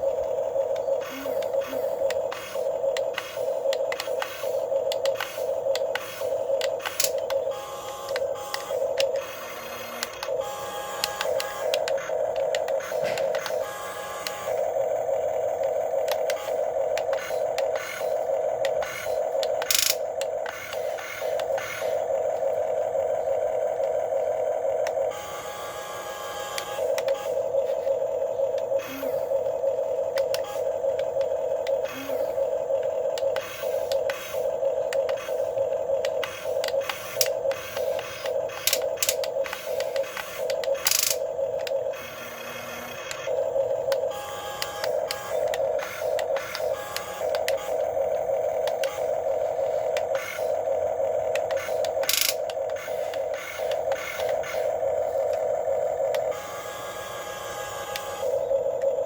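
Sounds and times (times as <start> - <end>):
electric motors whirring: 0.0 - 59.0.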